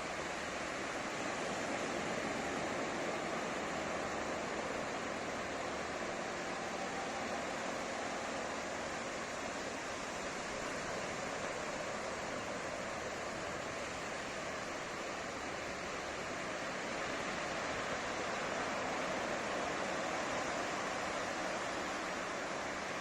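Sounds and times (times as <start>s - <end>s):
ocean surf on a beach: 0.0s - 23.0s.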